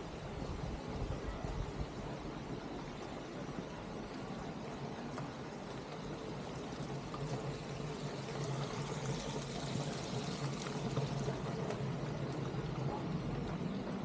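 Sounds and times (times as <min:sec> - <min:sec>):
water splashing from fountain: 0:00.0 - 0:14.0.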